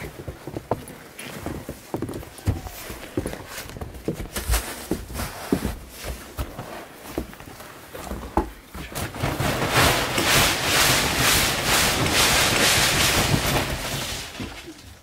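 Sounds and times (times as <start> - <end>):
snow sliding off canvas roof: 0.0 - 14.8.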